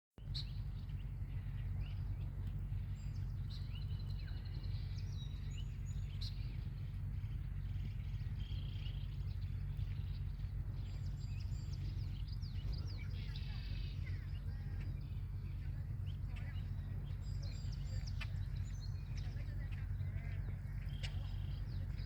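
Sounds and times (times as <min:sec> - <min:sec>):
bird chirps and peeps: 0:00.2 - 0:22.0
low rumble: 0:00.2 - 0:22.0.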